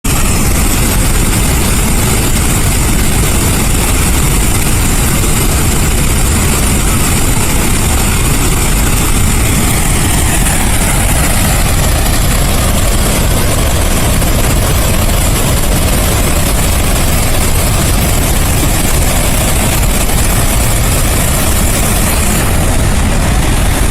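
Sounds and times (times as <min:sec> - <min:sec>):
water rushing with a deep roar: 0:00.1 - 0:23.9.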